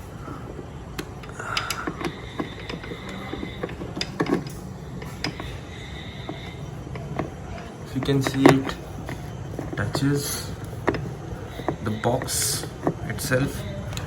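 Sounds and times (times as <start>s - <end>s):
air filter clicks and knocks: 0.9s - 5.6s, 6.3s - 13.4s.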